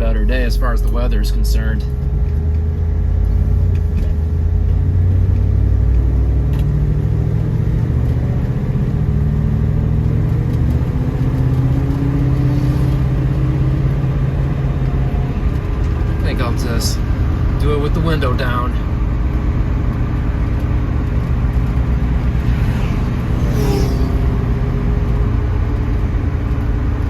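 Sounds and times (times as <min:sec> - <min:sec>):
car engine and exhaust accelerating: 0:00.0 - 0:27.0.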